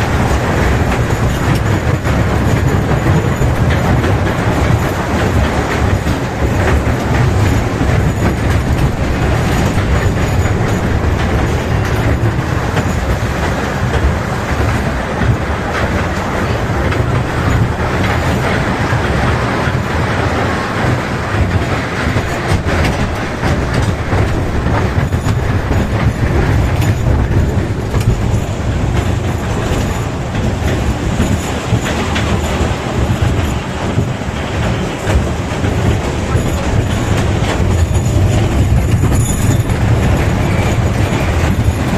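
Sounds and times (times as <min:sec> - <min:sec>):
train rumbling on track: 0:00.0 - 0:41.9
wheels clattering on rails: 0:00.0 - 0:41.9.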